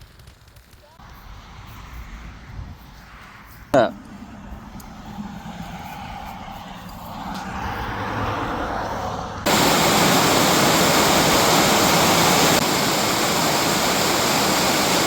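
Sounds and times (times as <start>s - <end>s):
wind and motorcycle road noise: 1.0s - 15.0s.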